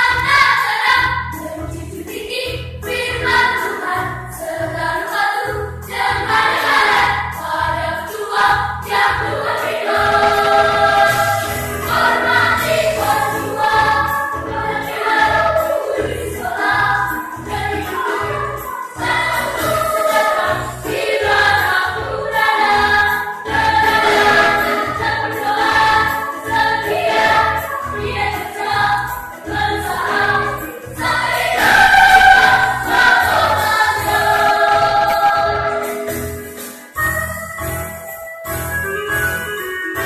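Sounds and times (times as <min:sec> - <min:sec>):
children's choir singing: 0:00.0 - 0:36.3
instrumental accompaniment with beat: 0:00.0 - 0:40.0.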